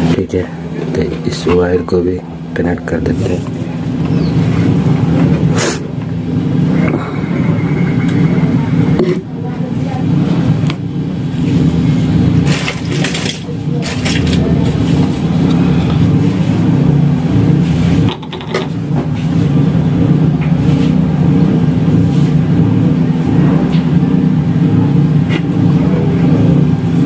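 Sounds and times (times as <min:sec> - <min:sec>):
loud low hum: 0:00.0 - 0:27.0.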